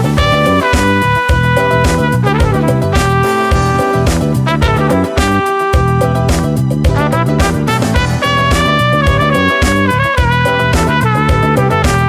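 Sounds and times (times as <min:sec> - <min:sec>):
bass line: 0:00.0 - 0:12.0
held brass notes: 0:00.0 - 0:12.0
steady drum beat: 0:00.0 - 0:12.0.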